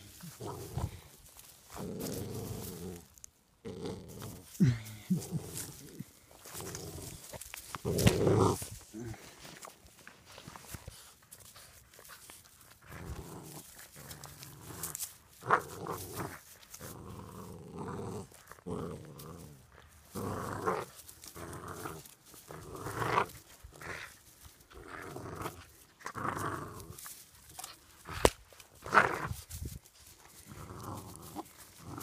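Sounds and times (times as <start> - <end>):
puppy growling: 0.0 - 9.3, 12.6 - 29.4, 30.2 - 32.0.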